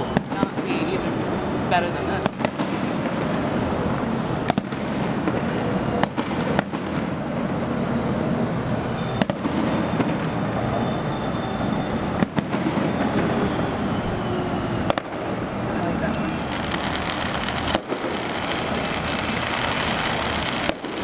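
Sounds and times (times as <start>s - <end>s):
firework bangs: 0.0s - 21.0s
steady rumble: 0.0s - 21.0s.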